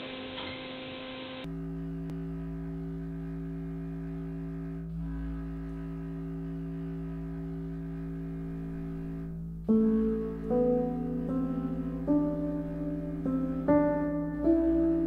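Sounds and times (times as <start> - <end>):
low drone of held tones: 1.4 - 15.0.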